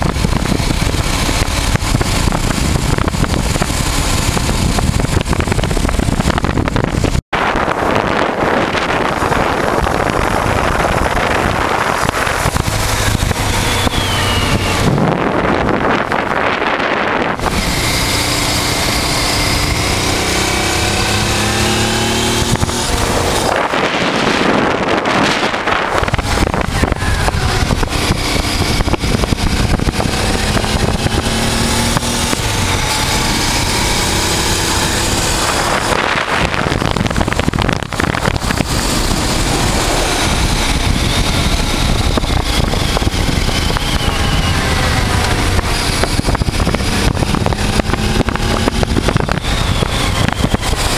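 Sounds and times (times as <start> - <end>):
motorcycle engine accelerating: 0.0 - 50.9
wind noise on microphone: 0.0 - 50.9.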